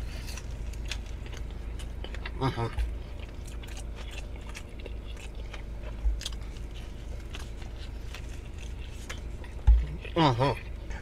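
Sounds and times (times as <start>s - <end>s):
person chewing sandwich: 0.0s - 11.0s.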